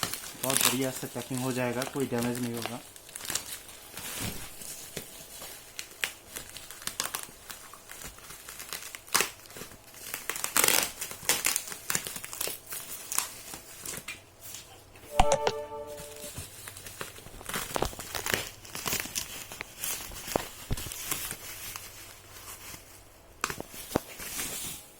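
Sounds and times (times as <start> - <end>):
bubble wrap crinkling: 0.0 - 14.8, 16.2 - 24.9.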